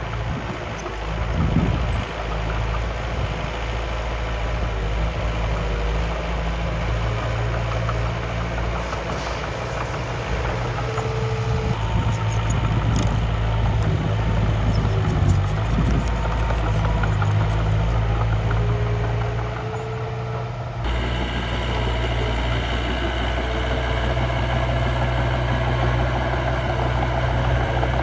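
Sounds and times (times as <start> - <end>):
small engine idling: 0.0 - 28.0.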